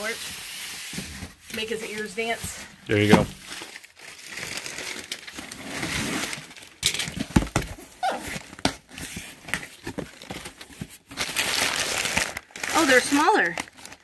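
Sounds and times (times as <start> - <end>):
packing paper rustling: 0.0 - 14.0.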